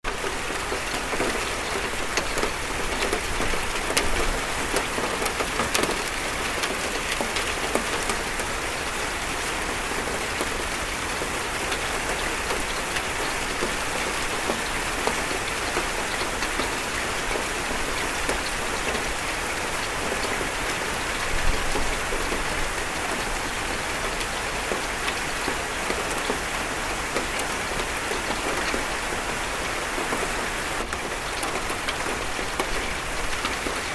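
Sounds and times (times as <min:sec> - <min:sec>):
rain on a metal roof: 0:00.0 - 0:33.9.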